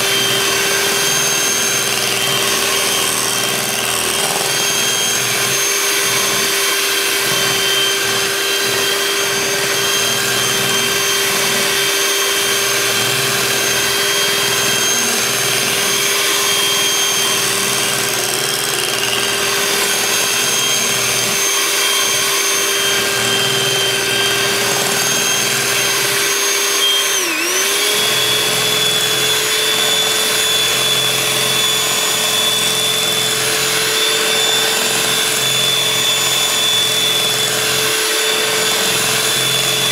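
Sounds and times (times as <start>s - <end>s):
beaters churning batter: 0.0s - 39.9s
electric hand mixer whining: 0.0s - 39.9s.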